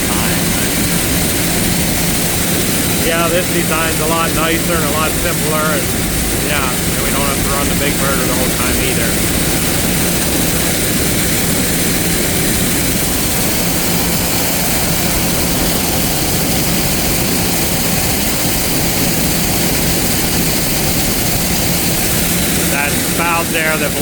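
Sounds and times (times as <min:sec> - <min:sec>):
motor rushing drone with hum: 0:00.0 - 0:24.0.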